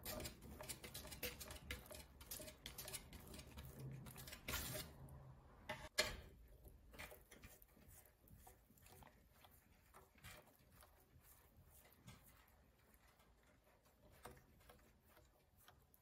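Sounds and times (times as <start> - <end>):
wet paint squishing under muller: 0.0 - 5.2, 6.5 - 16.0.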